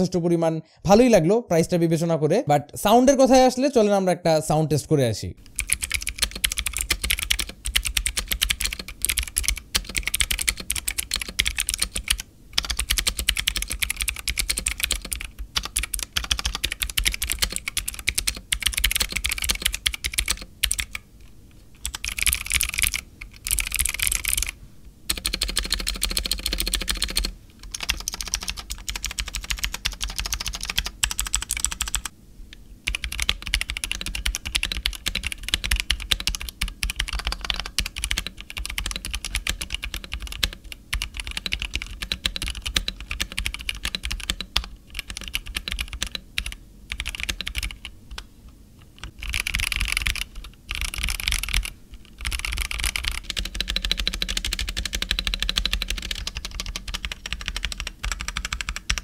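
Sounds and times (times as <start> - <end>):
mechanical keyboard typing: 5.4 - 21.0, 21.8 - 32.1, 32.9 - 48.3, 48.9 - 59.0.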